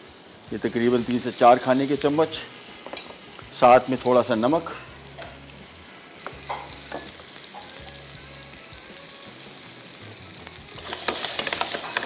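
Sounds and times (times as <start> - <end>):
potato wedges sizzling in oil: 0.0 - 12.0.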